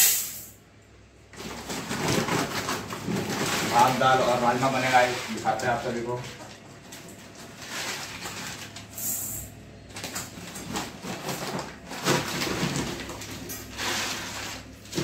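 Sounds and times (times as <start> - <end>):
plastic sack rustling: 1.3 - 9.0, 9.8 - 15.0.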